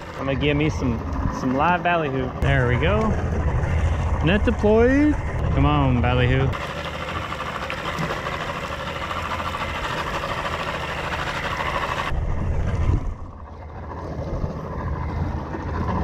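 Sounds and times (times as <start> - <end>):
loud low rumble: 0.0 - 6.6, 9.2 - 16.0
boat engine running: 0.0 - 16.0.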